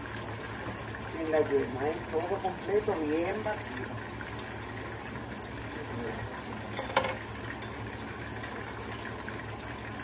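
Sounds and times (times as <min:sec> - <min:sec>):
oil sizzling in frying pans: 0:00.0 - 0:10.0.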